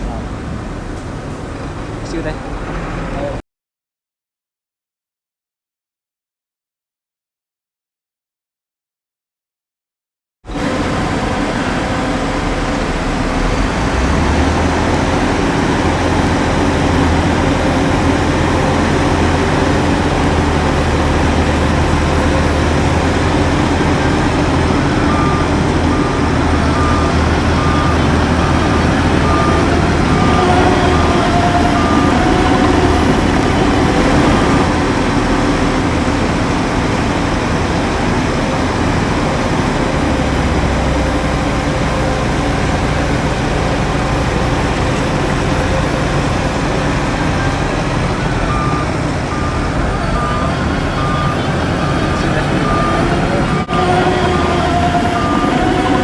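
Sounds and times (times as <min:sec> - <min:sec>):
heavy diesel machinery running: 0:00.0 - 0:03.4, 0:10.5 - 0:56.0
reversing alarm beeping: 0:10.6 - 0:56.0.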